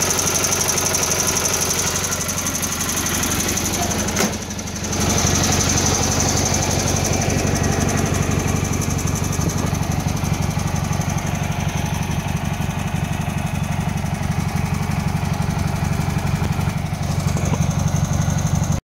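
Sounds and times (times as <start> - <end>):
tractor engine idling: 0.0 - 18.8.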